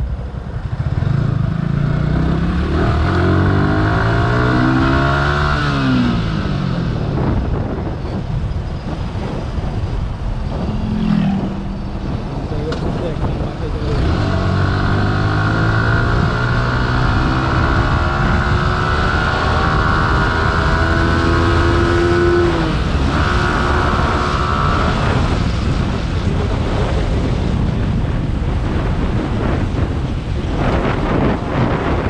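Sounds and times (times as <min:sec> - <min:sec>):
motorcycle engine accelerating: 0:00.0 - 0:32.0
wind rush on microphone: 0:00.0 - 0:32.0.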